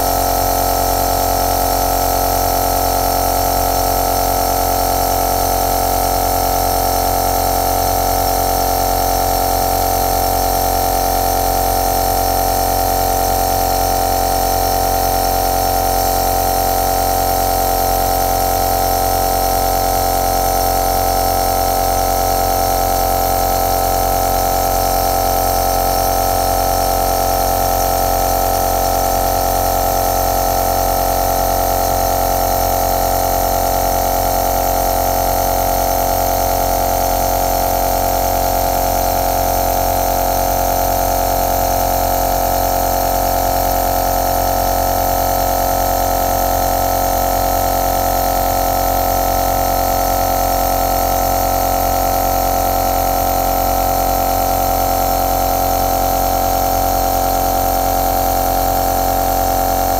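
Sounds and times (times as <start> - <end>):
nebulizer motor hum: 0.0 - 59.9.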